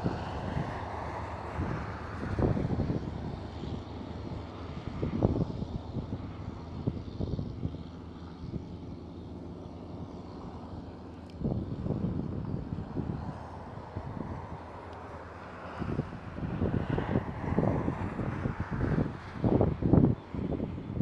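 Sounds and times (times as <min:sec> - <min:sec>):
truck diesel engine under load: 0:00.0 - 0:21.0.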